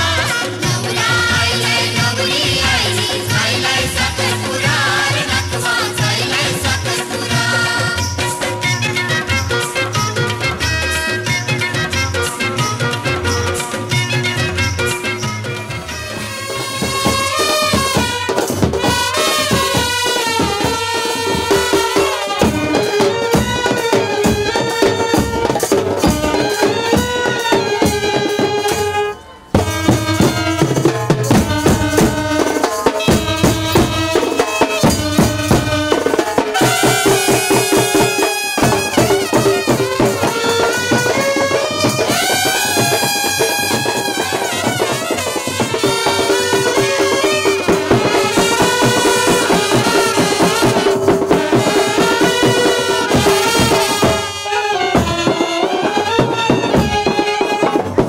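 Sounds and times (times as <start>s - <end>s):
quick busy drum beats: 0.0s - 58.0s.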